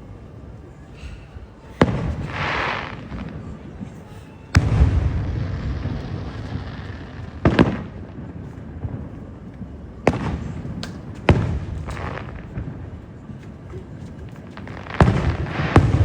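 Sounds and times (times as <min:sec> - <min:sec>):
fireworks bangs: 0:01.8 - 0:16.0.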